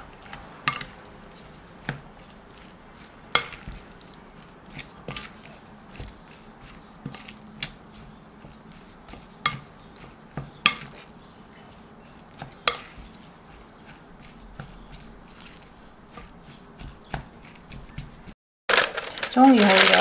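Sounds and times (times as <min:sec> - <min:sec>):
spoon stirring rice in bowl: 0:00.0 - 0:18.3.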